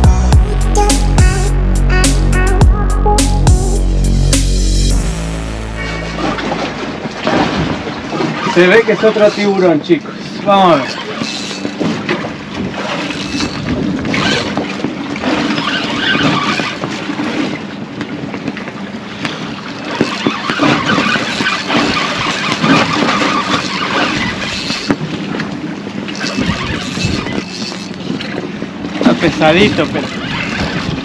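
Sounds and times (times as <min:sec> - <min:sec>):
water noise: 0:00.0 - 0:31.0
wind: 0:00.0 - 0:31.0.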